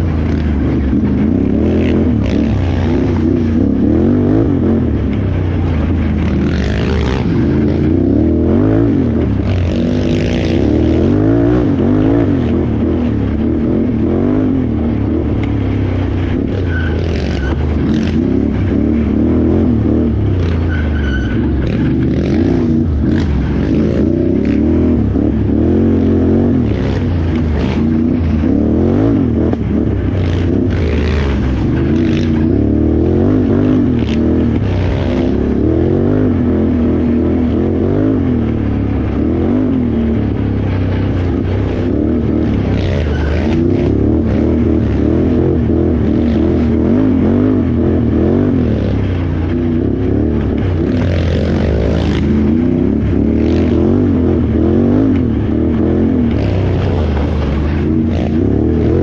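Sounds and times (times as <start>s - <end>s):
atv engine running hard: 0.0s - 59.0s.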